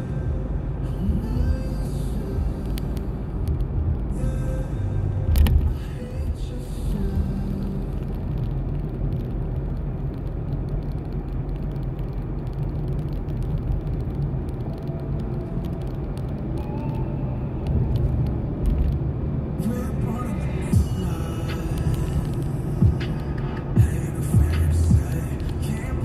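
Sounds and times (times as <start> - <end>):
car interior road and engine rumble: 0.0 - 26.0.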